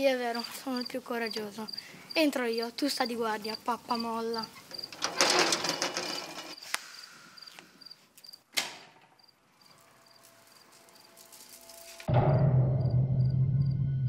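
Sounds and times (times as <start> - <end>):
crickets chirping: 0.0 - 8.5, 9.1 - 12.1.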